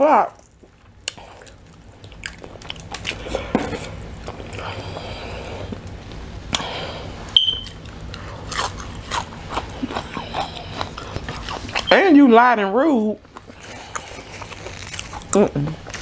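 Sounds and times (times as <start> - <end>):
person chewing food: 0.4 - 12.2, 13.2 - 16.0.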